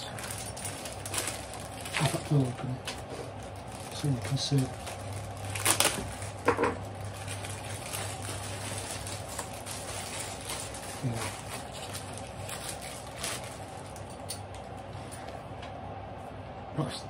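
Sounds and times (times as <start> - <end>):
packaging clicks and rustles: 0.0 - 14.8
steady low hum: 0.0 - 17.0.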